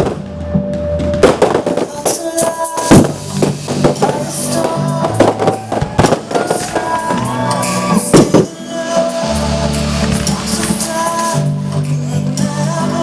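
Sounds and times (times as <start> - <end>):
fireworks bangs: 0.0 - 11.4
music with steady beat: 0.0 - 13.0.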